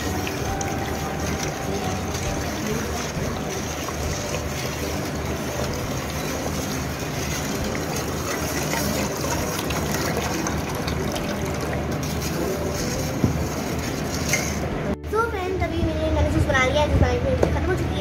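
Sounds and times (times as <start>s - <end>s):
liquid sloshing from stirring: 0.0s - 14.7s.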